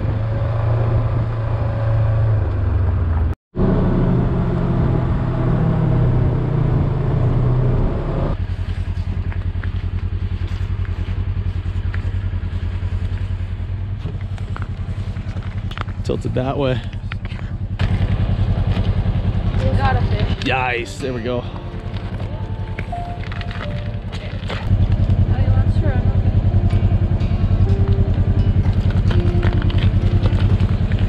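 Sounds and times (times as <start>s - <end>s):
utility vehicle engine running: 0.0s - 31.0s.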